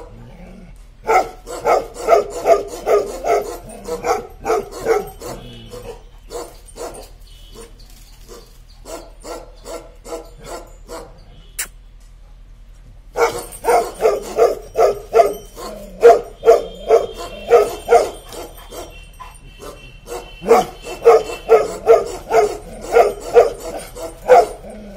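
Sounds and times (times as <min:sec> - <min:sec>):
dog barking: 0:01.0 - 0:11.2, 0:13.2 - 0:24.9.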